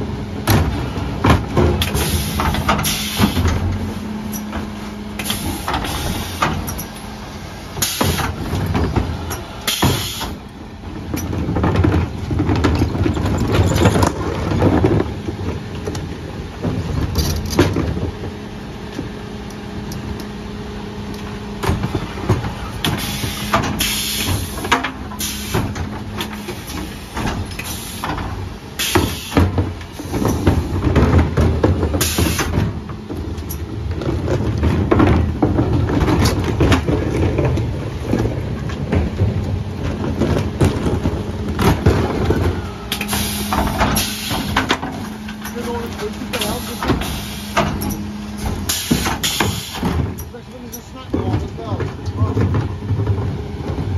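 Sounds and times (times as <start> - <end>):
wheelie bins knocking and clattering: 0.0 - 20.1, 21.2 - 53.9
truck engine humming: 0.0 - 53.9.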